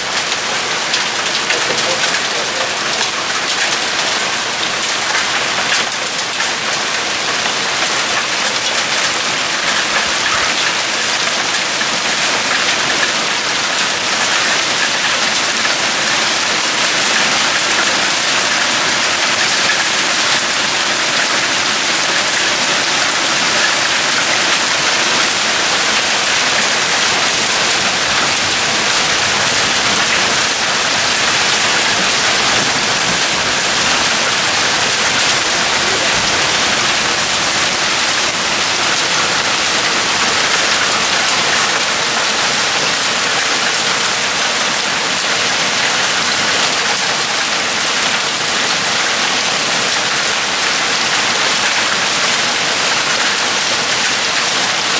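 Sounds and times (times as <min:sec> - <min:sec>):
hail and rain falling: 0:00.0 - 0:54.9.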